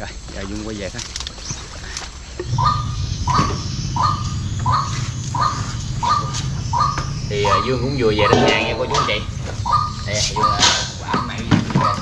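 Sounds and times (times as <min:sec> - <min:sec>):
bird calling: 0:00.0 - 0:12.0
low steady hum: 0:00.0 - 0:12.0.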